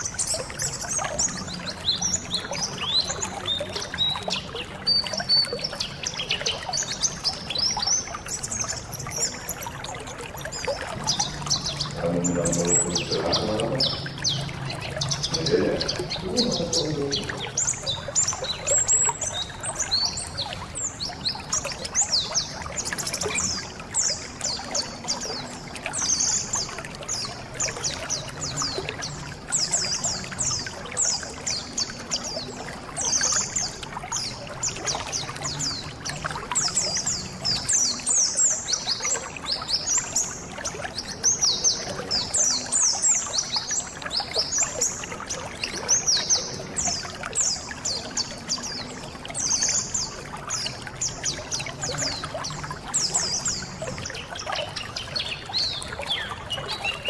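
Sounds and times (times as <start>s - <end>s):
birds chirping: 0.0s - 57.0s
running water trickling: 0.0s - 57.0s.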